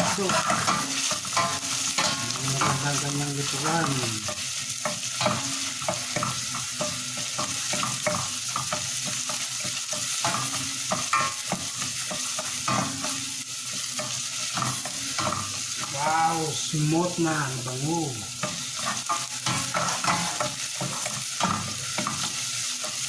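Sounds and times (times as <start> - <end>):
utensil scraping a pan: 0.0 - 16.0, 18.4 - 23.0
food sizzling in a pan: 0.0 - 23.0.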